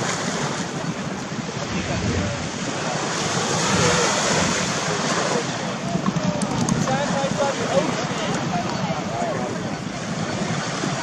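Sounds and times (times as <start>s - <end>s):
small waves washing onto sand: 0.0s - 11.0s
wind buffeting microphone: 0.0s - 11.0s.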